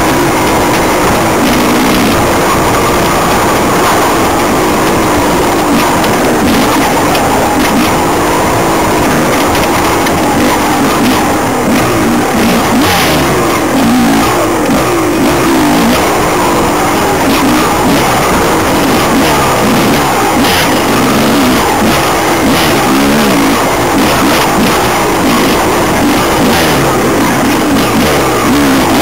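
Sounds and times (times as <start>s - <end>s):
motorcycle engine revving: 0.0s - 29.0s
steady rush of noise: 0.0s - 29.0s.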